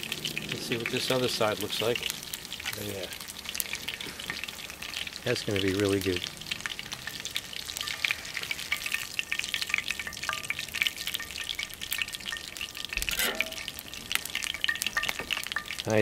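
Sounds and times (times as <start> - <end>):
frying oil sizzling and popping: 0.0 - 16.0.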